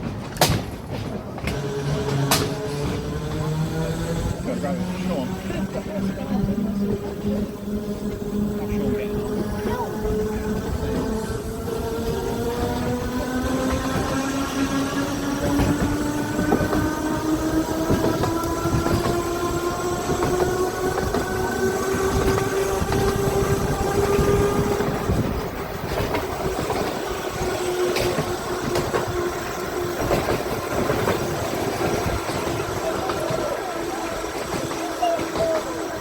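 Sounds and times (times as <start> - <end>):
tram motor whining: 0.0 - 36.0
wheels clattering on track: 0.0 - 36.0.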